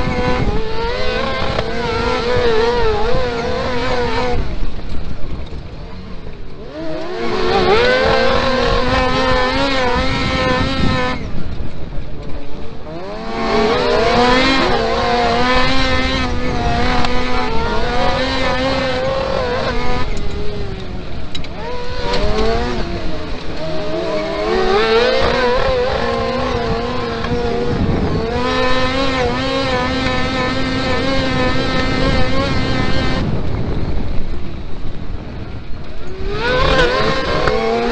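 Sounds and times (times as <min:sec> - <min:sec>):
buggy engine at high revs: 0:00.0 - 0:37.9
rumble from dirt track: 0:00.0 - 0:37.9.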